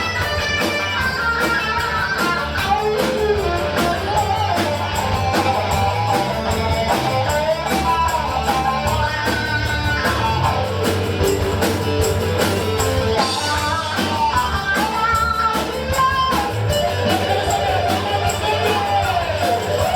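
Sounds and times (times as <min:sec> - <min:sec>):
band music led by guitar: 0:00.0 - 0:19.9.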